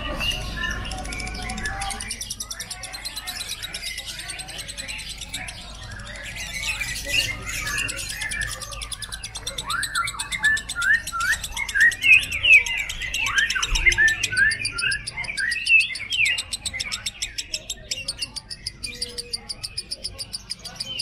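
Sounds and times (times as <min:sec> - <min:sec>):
fast high ticking: 0:00.7 - 0:21.0.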